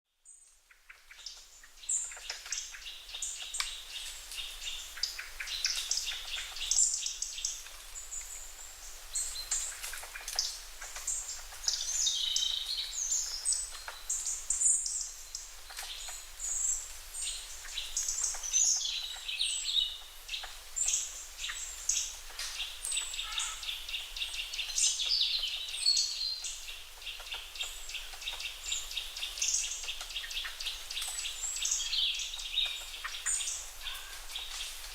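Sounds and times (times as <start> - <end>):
birds chirping and calling: 0.6 - 34.9.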